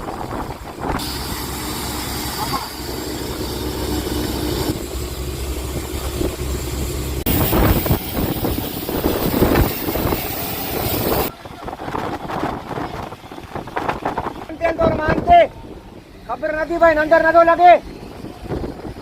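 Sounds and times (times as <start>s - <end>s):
storm wind and rain: 0.0s - 2.3s, 3.1s - 19.0s
boat engine running: 0.0s - 19.0s.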